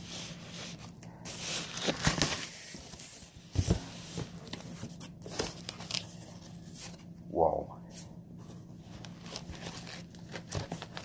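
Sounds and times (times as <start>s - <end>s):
cardboard tearing and rustling: 0.0s - 7.0s, 9.0s - 11.0s.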